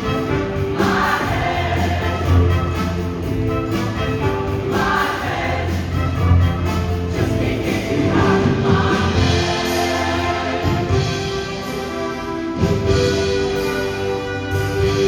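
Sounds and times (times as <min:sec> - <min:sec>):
choir singing in harmony: 0:00.0 - 0:14.3
instrumental accompaniment with bass: 0:00.0 - 0:15.0.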